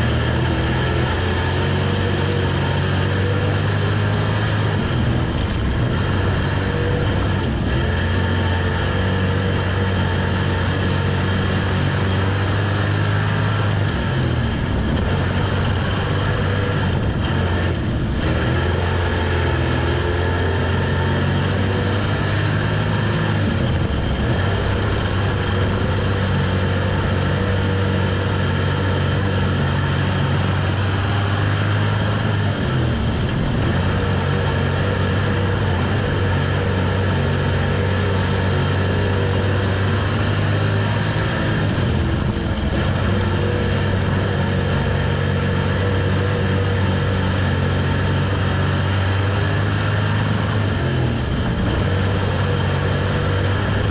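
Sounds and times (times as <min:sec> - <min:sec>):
race car engine running hard: 0:00.0 - 0:53.9.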